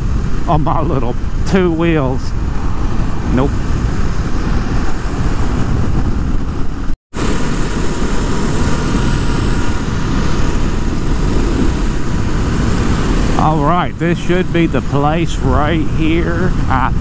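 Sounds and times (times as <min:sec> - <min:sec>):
motorcycle engine: 0:00.0 - 0:16.9
road noise: 0:00.0 - 0:17.0
wind rushing over microphone: 0:00.0 - 0:17.0.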